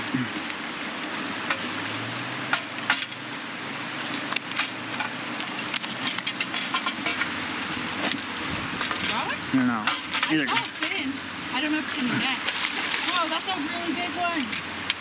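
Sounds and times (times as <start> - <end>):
fast river water rushing: 0.0 - 15.0.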